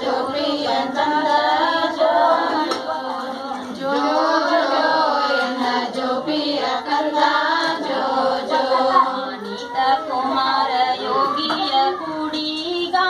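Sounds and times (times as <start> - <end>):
women singing a lullaby together: 0.0 - 13.0.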